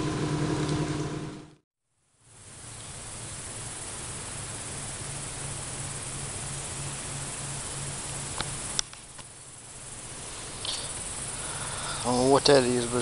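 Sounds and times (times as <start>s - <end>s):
insect hiss: 2.0s - 13.0s.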